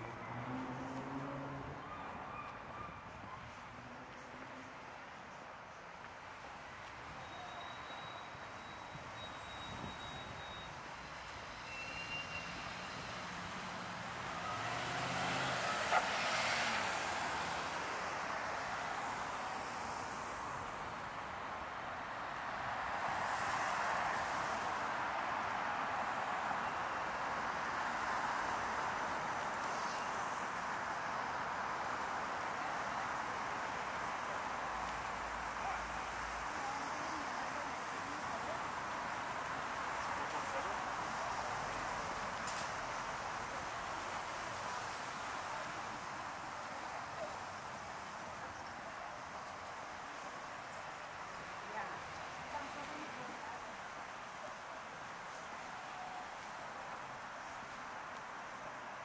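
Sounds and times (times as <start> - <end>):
distant traffic noise: 0.0 - 59.0
vehicles passing: 0.0 - 59.0.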